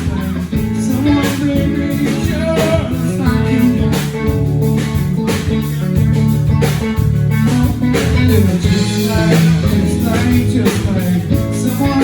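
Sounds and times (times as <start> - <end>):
bass guitar: 0.0 - 12.0
drum kit: 0.0 - 12.0
electric guitar: 0.0 - 12.0.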